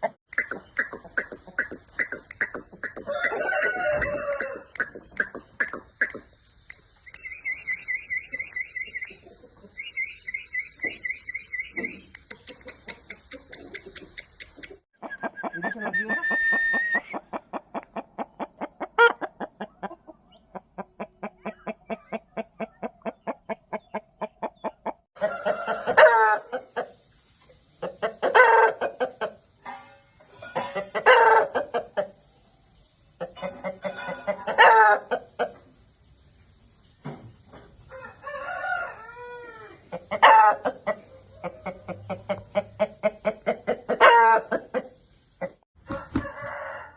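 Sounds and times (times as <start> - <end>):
drawn-out chicken call: 0.0 - 6.4, 7.0 - 27.0, 27.8 - 29.5, 30.3 - 32.2, 33.2 - 35.7, 37.8 - 46.9
chickens clucking: 0.0 - 36.2, 37.0 - 46.8.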